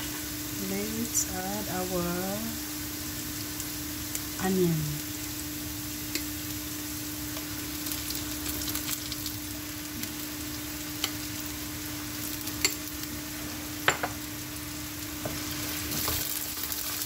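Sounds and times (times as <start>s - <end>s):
aromatics sizzling in oil: 0.0s - 17.0s.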